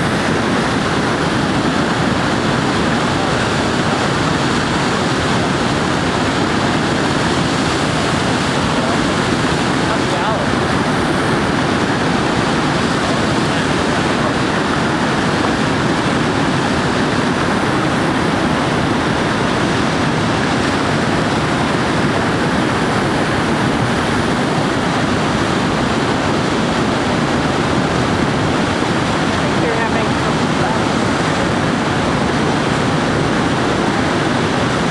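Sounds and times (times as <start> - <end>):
whitewater rapids rushing: 0.0 - 34.9.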